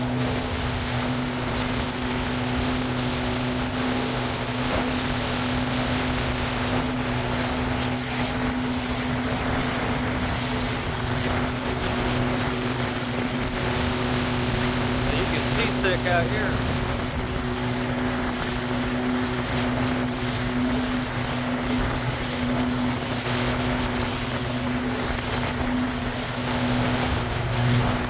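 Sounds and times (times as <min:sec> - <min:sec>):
motorboat engine running: 0:00.0 - 0:28.0
water chop noise: 0:00.0 - 0:28.0
wind rushing over microphone: 0:00.0 - 0:28.0.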